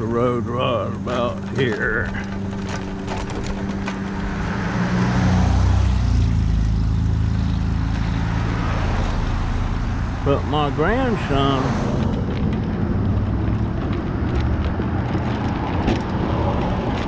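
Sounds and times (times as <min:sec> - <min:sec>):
clicks and rattles over bumps: 0:00.0 - 0:09.6, 0:10.2 - 0:17.0
scooter motor hum: 0:00.0 - 0:17.0.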